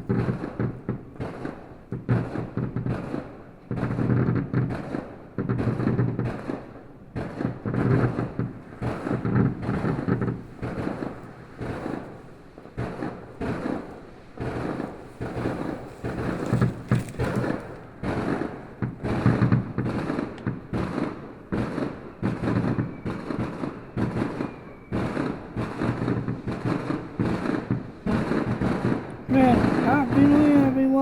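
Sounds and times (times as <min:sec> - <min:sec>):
fireworks bangs with rumbling echo: 0:00.0 - 0:31.0.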